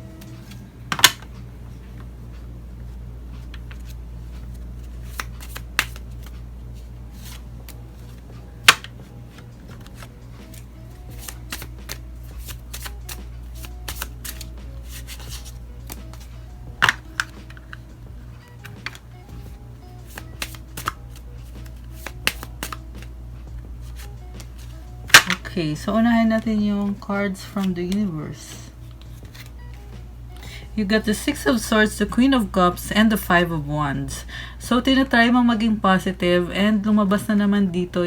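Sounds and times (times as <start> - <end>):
background music with steady beat: 0.0 - 38.0
cards being shuffled: 0.1 - 30.6.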